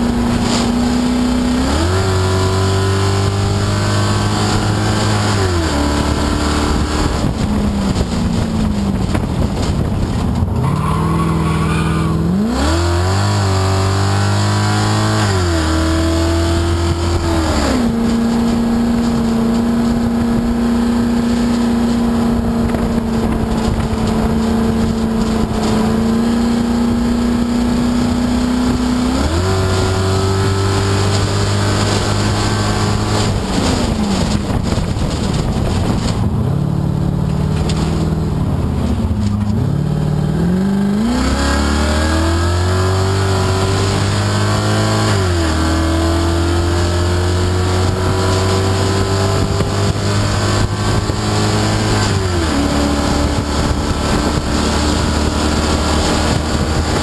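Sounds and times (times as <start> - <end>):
race car engine: 0.0 - 57.0
wind and road noise: 0.0 - 57.0.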